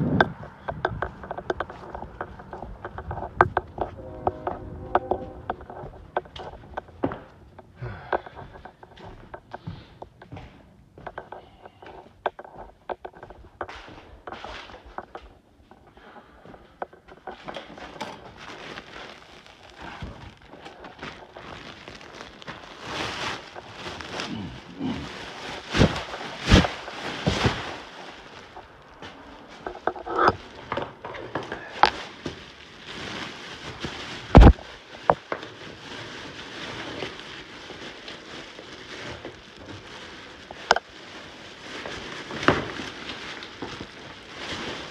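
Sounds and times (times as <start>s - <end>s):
trash crackling and rustling: 0.0s - 11.7s, 12.3s - 44.9s.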